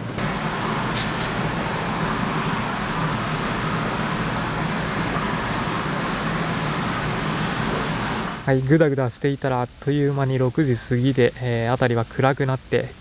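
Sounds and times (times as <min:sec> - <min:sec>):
jacuzzi water churning: 0:00.0 - 0:12.9.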